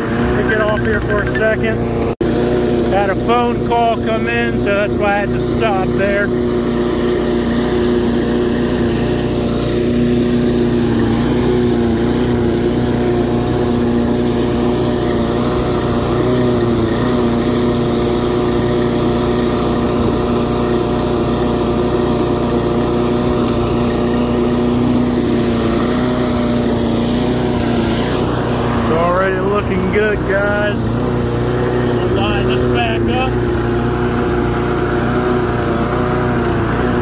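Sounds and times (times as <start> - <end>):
lawn mower engine running: 0.0 - 37.0.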